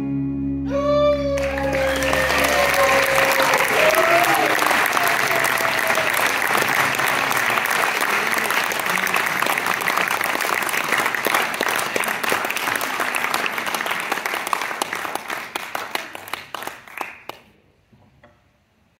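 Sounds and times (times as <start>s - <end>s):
audience applauding: 1.1s - 17.5s.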